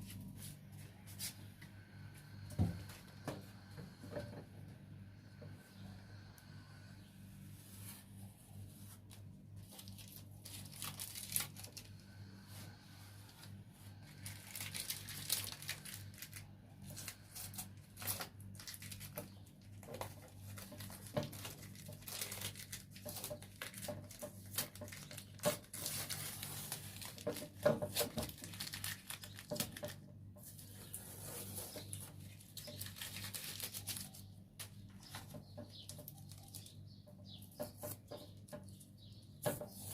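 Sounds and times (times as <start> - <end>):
scraping and crinkling from hand work: 7.4 - 39.9.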